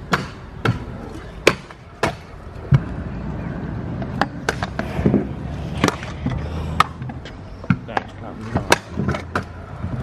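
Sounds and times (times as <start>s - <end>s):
scooter wheels rolling on concrete: 0.8s - 10.0s.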